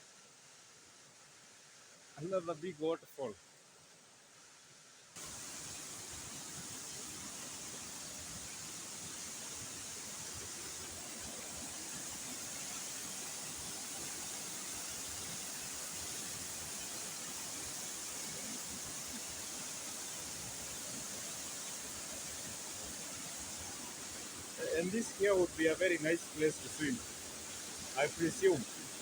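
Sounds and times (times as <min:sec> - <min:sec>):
waterfall rushing and splashing: 0:05.2 - 0:29.0.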